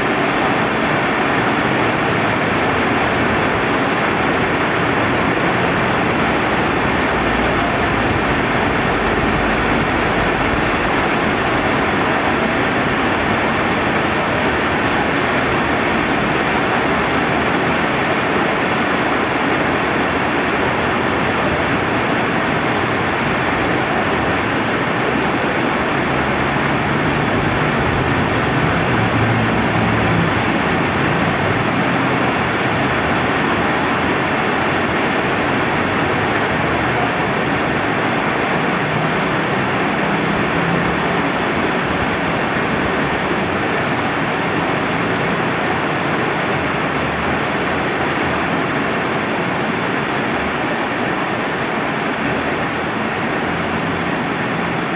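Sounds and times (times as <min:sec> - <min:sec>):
flowing river: 0:00.0 - 0:54.9
steady rain: 0:00.0 - 0:54.9.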